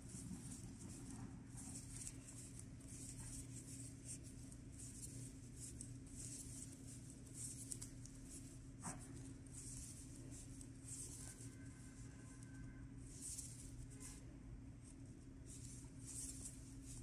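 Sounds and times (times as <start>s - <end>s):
yarn rustling over needles: 0.0s - 17.0s.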